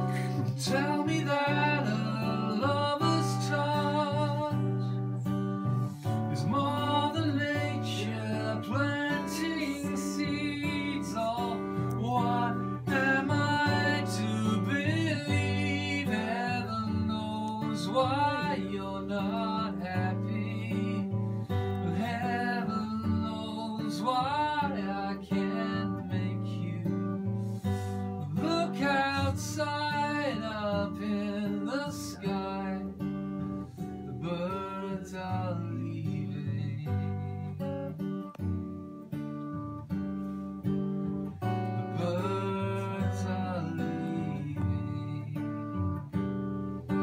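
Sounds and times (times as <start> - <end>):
man singing slow song: 0.0 - 38.0, 41.6 - 46.2, 46.8 - 47.0
acoustic guitar strummed and picked: 0.0 - 47.0.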